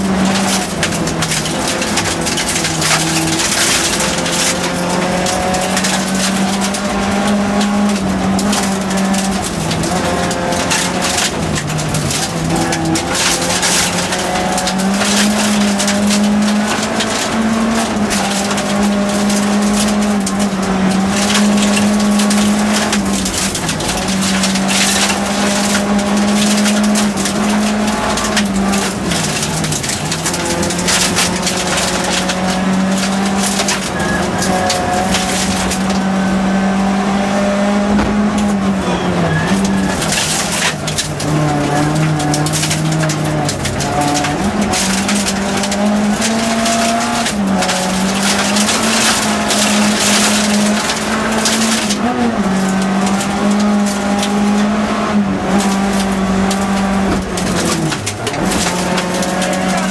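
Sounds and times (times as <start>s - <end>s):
car engine at high revs: 0.0s - 59.9s
gravel clattering against car underside: 0.0s - 59.9s.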